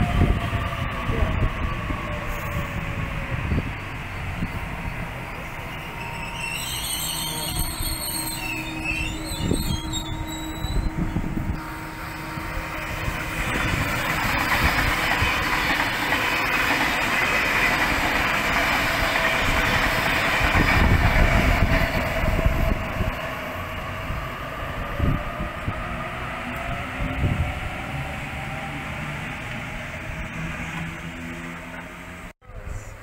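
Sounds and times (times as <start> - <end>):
train passing with rail noise: 0.0 - 33.0.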